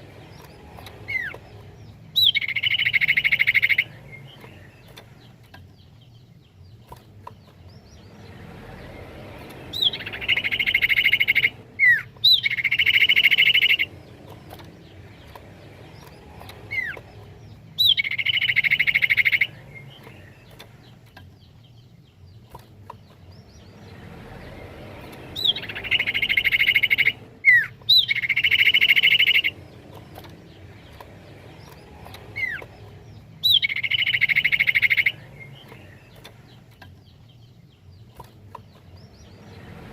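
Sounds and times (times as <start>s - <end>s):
bird whistles and buzzy trills: 0.0s - 6.9s, 7.7s - 38.3s.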